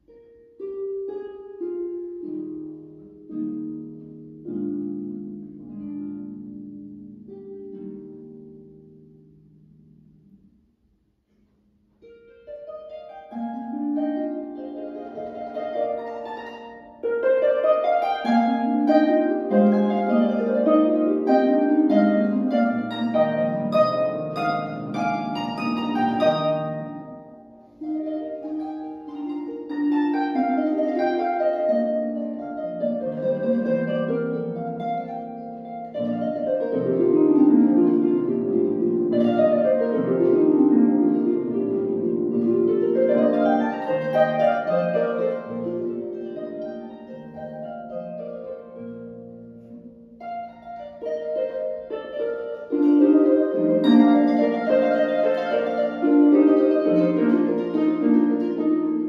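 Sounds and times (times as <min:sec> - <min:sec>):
harp playing: 0:00.0 - 0:59.0.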